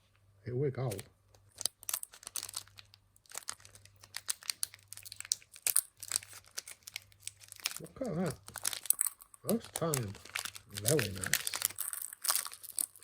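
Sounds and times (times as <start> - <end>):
foil wrapper tearing and crinkling: 0.9 - 13.0.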